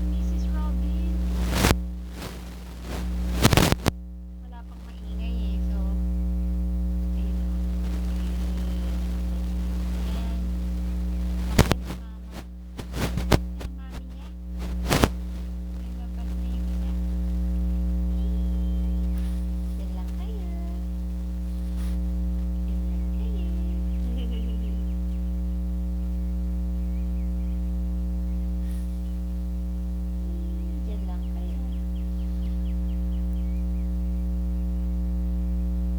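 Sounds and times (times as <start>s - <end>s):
electrical hum: 0.0s - 35.9s.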